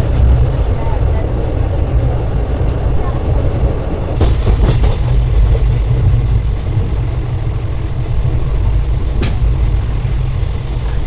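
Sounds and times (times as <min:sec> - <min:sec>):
moving train rumble: 0:00.0 - 0:11.0.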